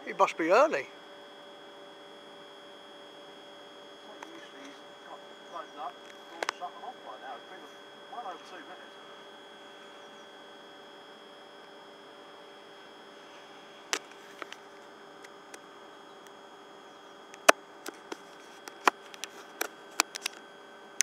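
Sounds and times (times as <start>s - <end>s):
electric train hum and whine: 0.0s - 21.0s.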